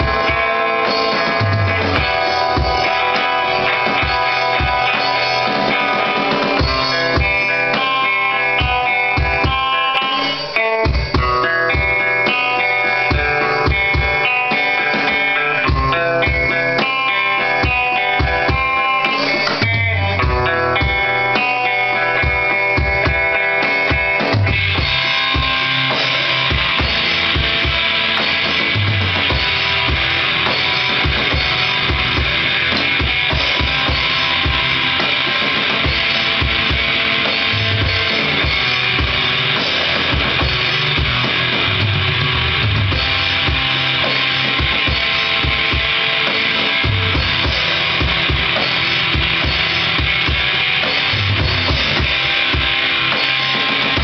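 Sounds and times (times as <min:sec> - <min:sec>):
drum kit playing: 0:00.0 - 0:54.0
guitar playing: 0:00.0 - 0:54.0.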